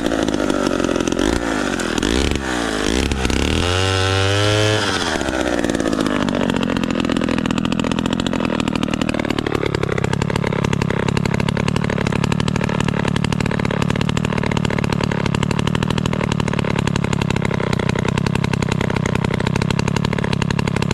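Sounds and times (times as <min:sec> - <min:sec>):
chainsaw engine revving and idling: 0:00.0 - 0:20.9.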